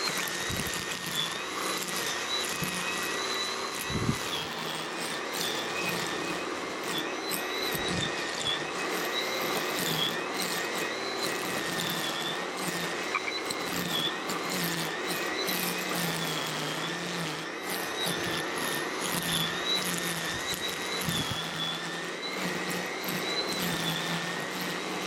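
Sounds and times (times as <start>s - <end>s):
string trimmer motor whine: 0.0s - 25.0s.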